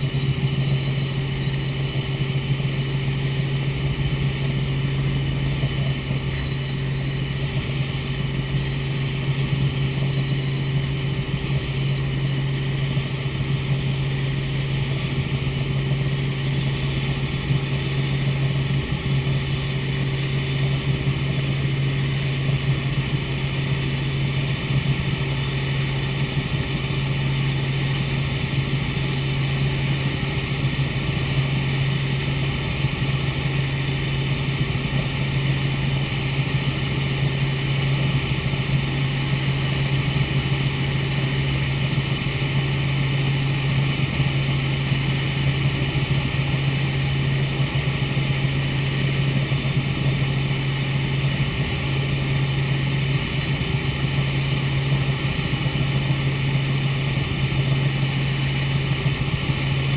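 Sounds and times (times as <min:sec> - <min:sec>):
helicopter engine and rotors droning: 0:00.0 - 0:59.9.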